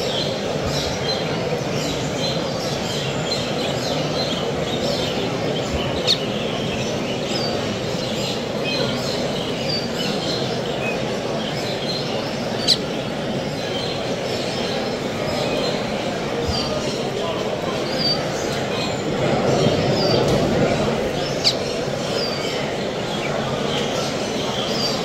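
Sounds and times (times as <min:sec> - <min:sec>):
busy hall din: 0:00.0 - 0:25.0
songbirds chirping and singing: 0:00.0 - 0:25.0.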